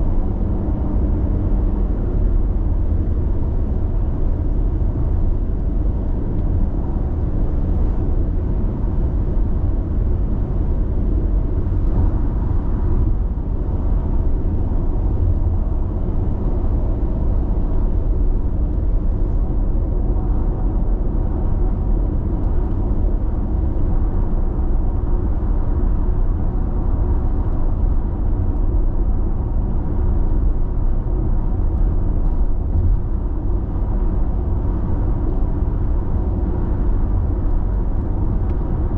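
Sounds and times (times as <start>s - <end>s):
car cabin road rumble: 0.0s - 38.9s.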